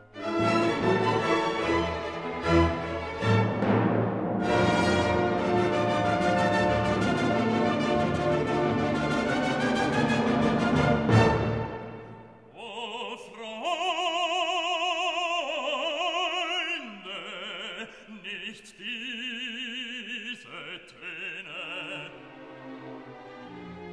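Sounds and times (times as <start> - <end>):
operatic singing: 4.4 - 23.9.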